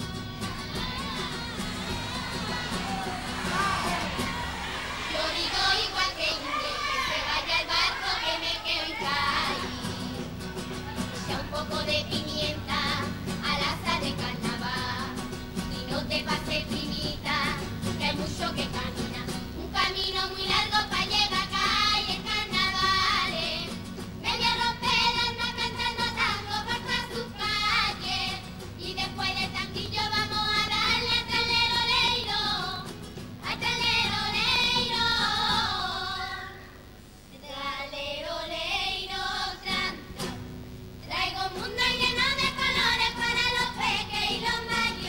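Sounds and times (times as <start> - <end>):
girls' choir singing: 0.0 - 36.7, 37.4 - 40.4, 41.0 - 45.0.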